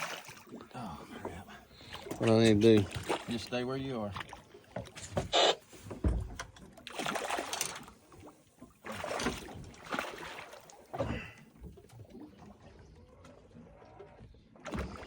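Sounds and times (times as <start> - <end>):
water splashing around boat: 0.0 - 15.0.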